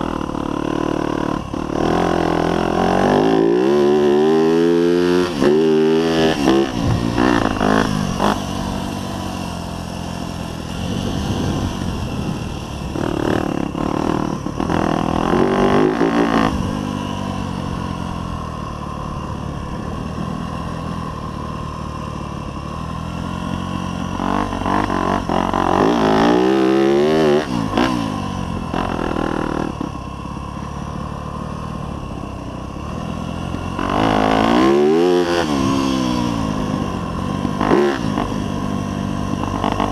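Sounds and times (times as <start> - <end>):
dirt bike engine revving: 0.0 - 21.2, 22.5 - 30.0, 32.8 - 39.9.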